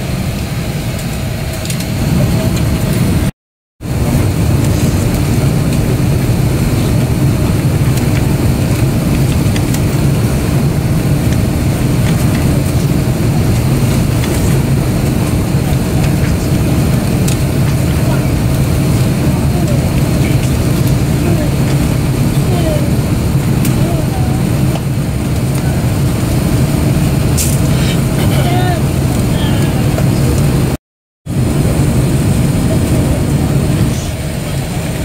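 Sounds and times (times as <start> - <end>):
airliner cabin ventilation hum: 0.0 - 35.0.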